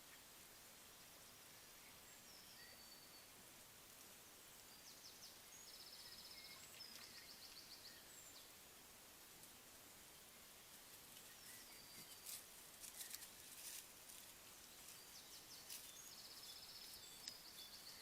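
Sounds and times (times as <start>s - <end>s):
background hiss: 0.0s - 18.0s
faint birdsong: 0.0s - 18.0s.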